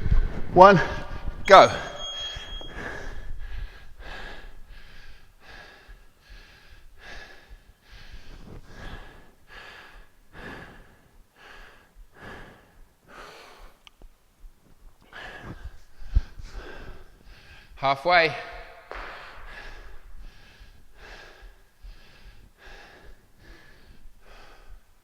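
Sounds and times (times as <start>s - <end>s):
man breathing hard: 2.6s - 13.8s, 15.0s - 17.8s, 18.6s - 25.0s.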